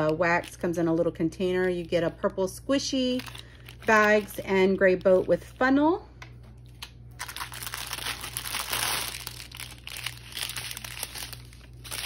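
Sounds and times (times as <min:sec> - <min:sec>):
plastic bags crinkling: 0:00.0 - 0:05.6, 0:06.6 - 0:12.0.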